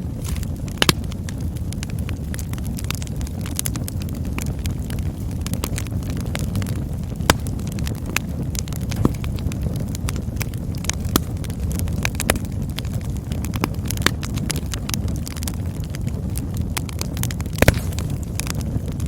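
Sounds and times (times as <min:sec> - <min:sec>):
campfire low rumble: 0:00.0 - 0:19.0
fire crackling and popping: 0:00.0 - 0:19.0.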